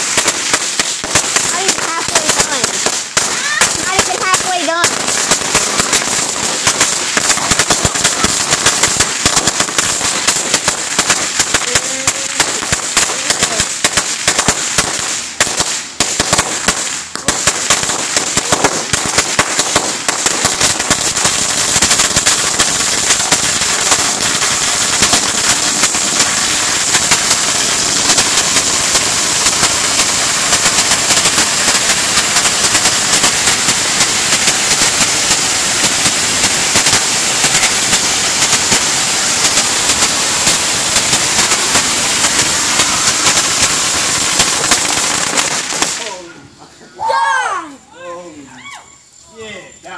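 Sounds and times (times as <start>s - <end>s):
firecracker roll bangs: 0.0s - 46.3s.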